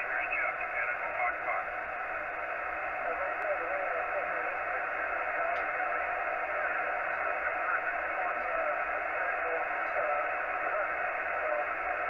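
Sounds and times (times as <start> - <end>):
faint unintelligible radio voice: 0.0 - 1.8, 2.8 - 12.0
radio static hiss: 0.0 - 12.0.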